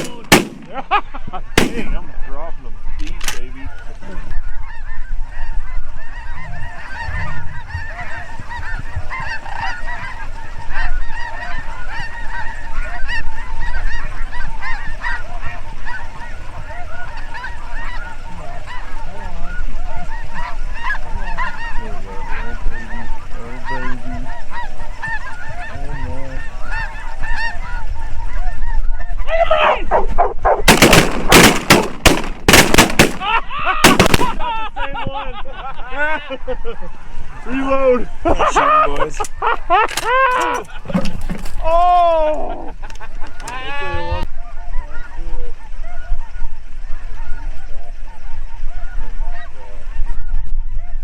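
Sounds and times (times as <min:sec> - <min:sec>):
flock of geese honking: 0:00.0 - 0:51.0.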